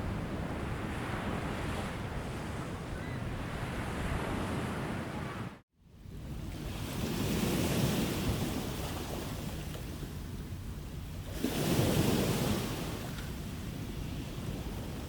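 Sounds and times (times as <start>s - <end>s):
ocean waves washing ashore: 0.0s - 15.0s.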